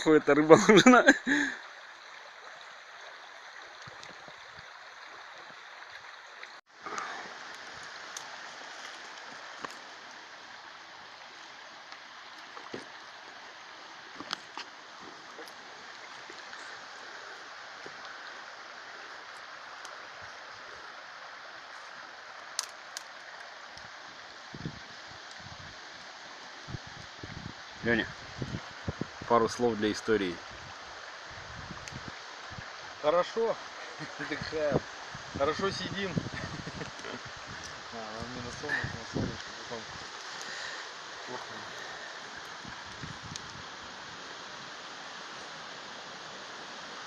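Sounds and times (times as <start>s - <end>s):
flowing river water: 0.0s - 47.0s.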